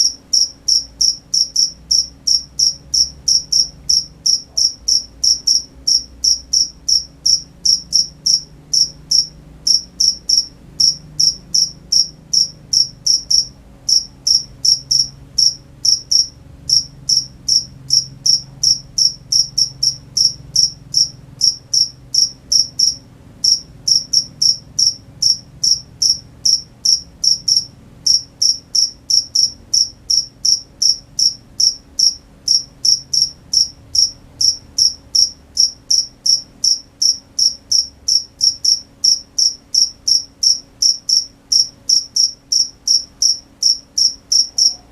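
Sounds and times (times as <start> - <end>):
cricket chirping: 0.0 - 44.9.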